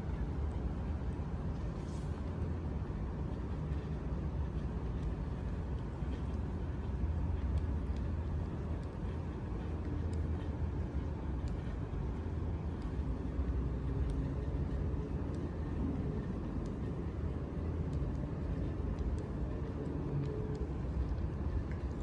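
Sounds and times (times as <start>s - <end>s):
low urban rumble: 0.0s - 22.0s
faint ticks: 0.1s - 22.0s.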